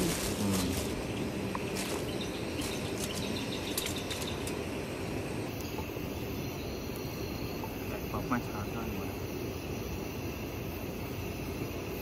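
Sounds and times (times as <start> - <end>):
outdoor ambience: 0.0 - 12.0.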